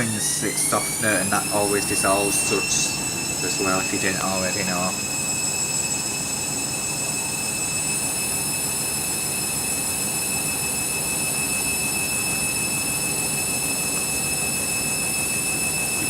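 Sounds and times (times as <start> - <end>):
washing machine high whine: 0.0 - 16.0.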